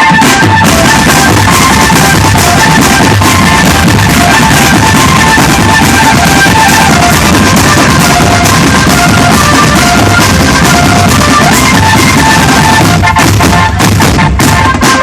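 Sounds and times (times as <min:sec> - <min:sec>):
drum band drumming: 0:00.0 - 0:15.0
high held melody notes: 0:00.0 - 0:15.0.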